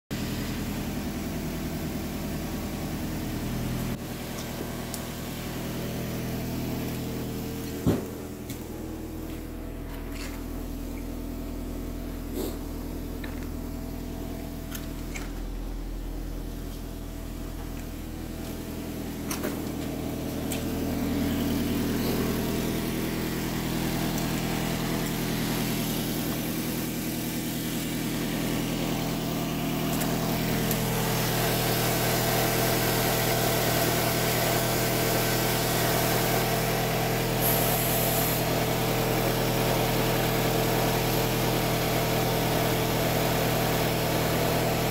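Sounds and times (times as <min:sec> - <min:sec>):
car engine idling: 0:00.1 - 0:44.9.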